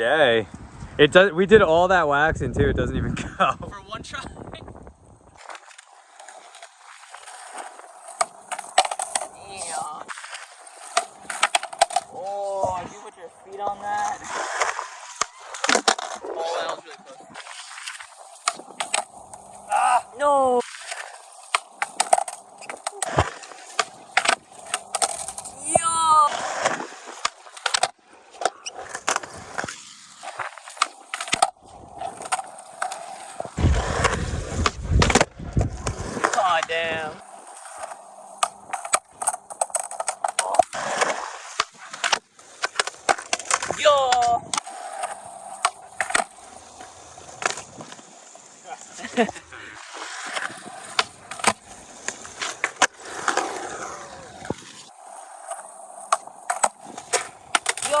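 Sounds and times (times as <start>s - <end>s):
skateboard rolling on pavement: 0.0s - 58.0s
skateboard clacks: 5.4s - 12.9s, 13.5s - 58.0s.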